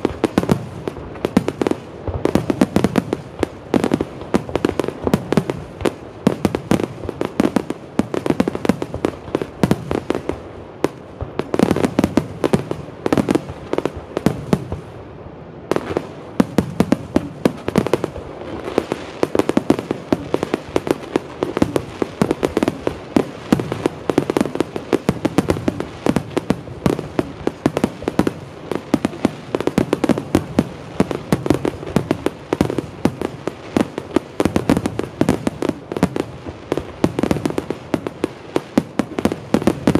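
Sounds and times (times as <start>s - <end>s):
barrage of firework bursts: 0.0s - 39.9s.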